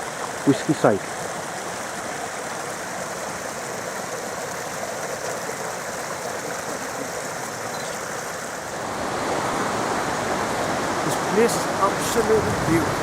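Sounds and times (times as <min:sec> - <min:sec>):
stream running: 0:00.0 - 0:13.0.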